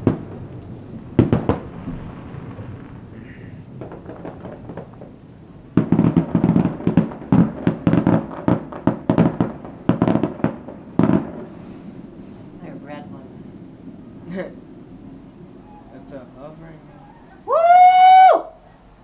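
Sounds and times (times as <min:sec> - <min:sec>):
distant fireworks bangs and crackles: 0:00.0 - 0:17.3.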